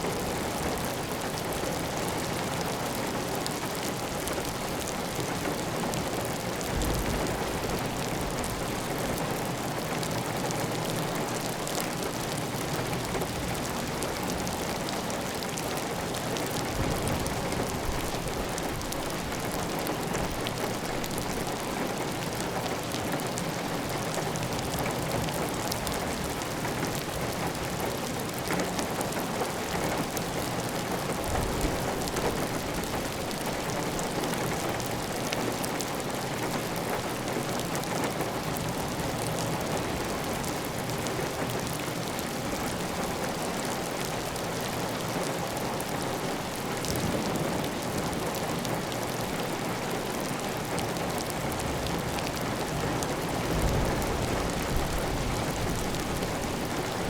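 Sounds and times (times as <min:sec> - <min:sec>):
heavy rain on a tile roof: 0:00.0 - 0:57.0.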